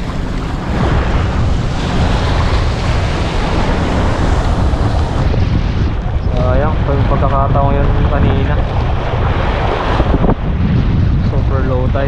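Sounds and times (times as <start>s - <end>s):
surf washing in shallows: 0.0s - 12.0s
wind buffeting microphone: 0.0s - 12.0s.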